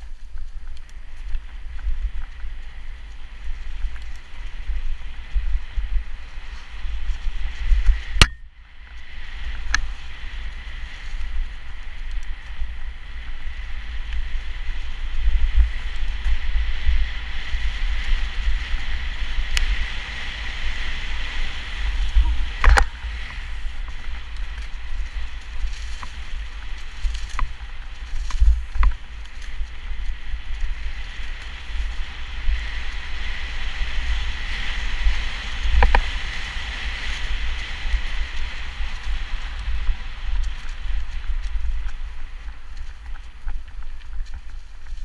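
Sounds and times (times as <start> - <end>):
bike tyres rattling on dirt: 0.0 - 45.0
wind buffeting microphone: 0.0 - 45.0.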